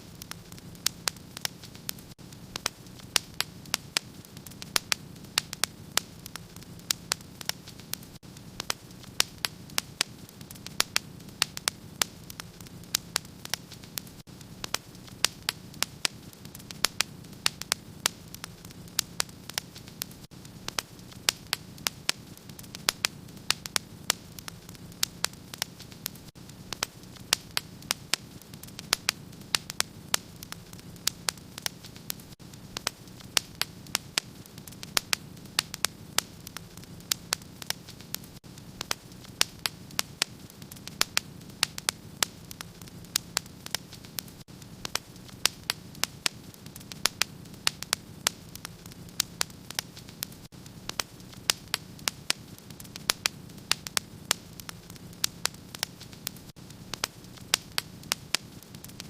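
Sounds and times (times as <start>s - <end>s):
flames rumbling and hissing: 0.0s - 59.0s
wood fire crackling and popping: 0.0s - 59.0s.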